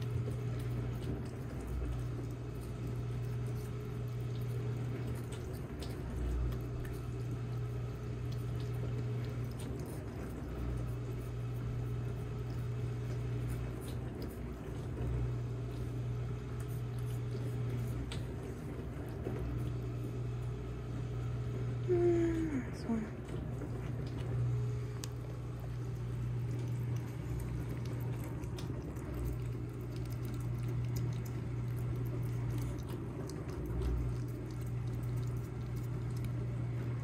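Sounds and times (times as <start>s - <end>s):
cat licking: 0.0s - 20.2s, 23.2s - 37.0s
steady low hum: 0.0s - 37.0s.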